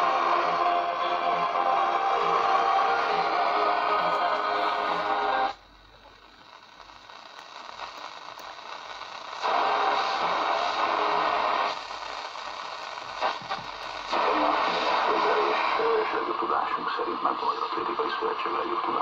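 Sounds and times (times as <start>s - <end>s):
radio crackles: 0.0s - 19.0s
radio music station: 0.0s - 19.0s
radio static hiss: 0.0s - 19.0s.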